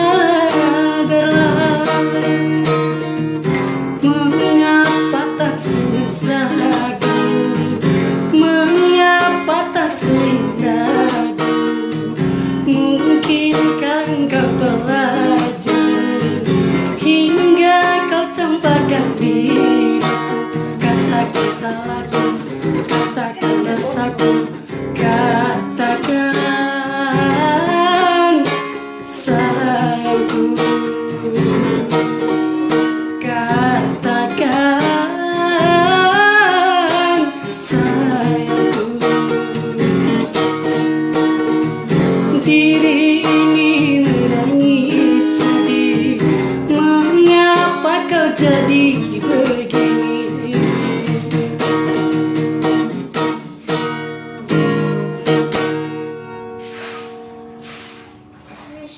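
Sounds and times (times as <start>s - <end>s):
person singing: 0.0s - 3.2s, 4.0s - 52.9s, 54.4s - 56.0s
strummed acoustic guitar: 0.0s - 58.9s.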